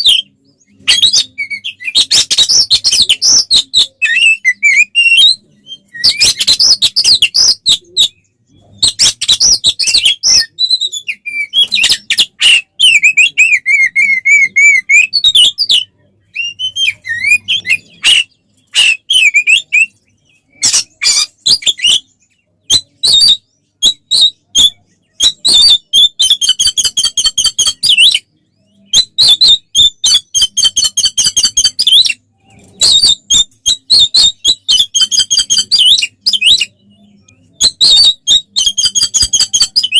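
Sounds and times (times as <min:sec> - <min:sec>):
bird singing harsh chattering song: 0:00.0 - 0:39.9.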